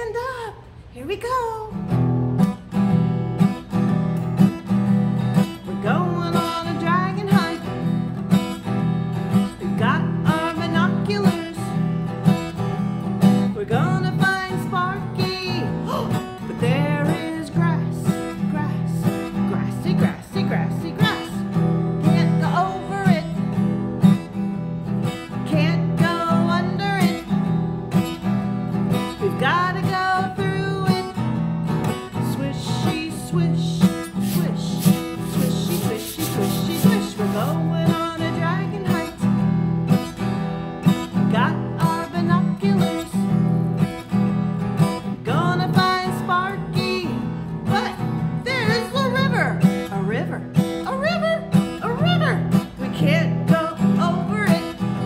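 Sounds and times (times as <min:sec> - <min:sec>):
woman singing: 0:00.0 - 0:02.2, 0:04.6 - 0:55.0
acoustic guitar strumming: 0:00.1 - 0:55.0.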